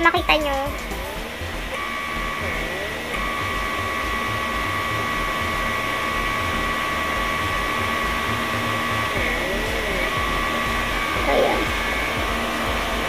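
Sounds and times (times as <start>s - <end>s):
small motor hum with high whine: 0.0s - 13.0s.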